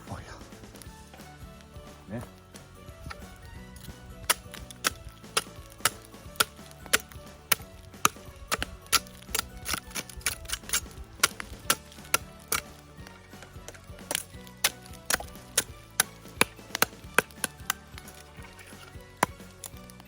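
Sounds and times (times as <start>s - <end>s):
blade splitting dry wood: 0.6s - 20.0s.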